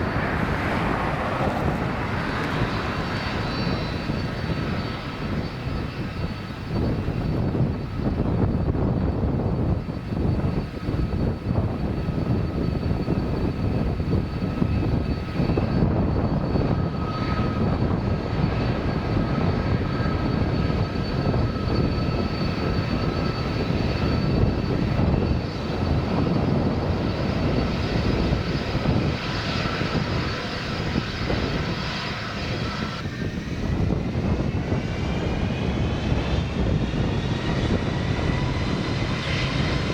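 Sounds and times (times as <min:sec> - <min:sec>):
jet engines rumbling and whining: 0:00.0 - 0:39.9.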